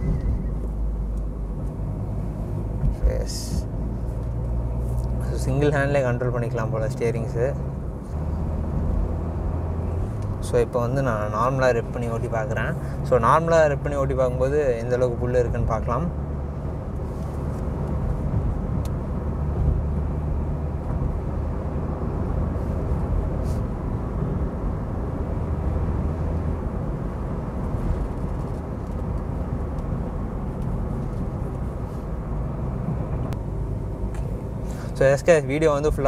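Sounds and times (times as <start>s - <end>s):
car engine accelerating: 0.0s - 36.0s
tyre and road noise: 0.0s - 36.0s.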